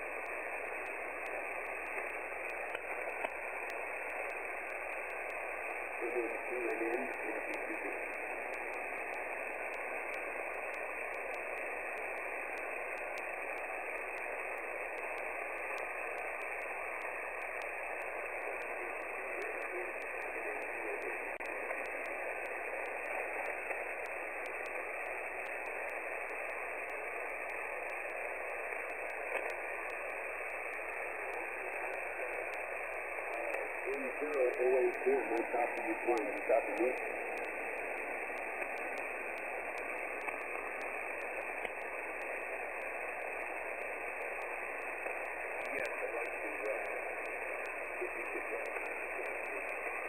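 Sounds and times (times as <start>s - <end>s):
radio band noise hiss: 0.0s - 50.0s.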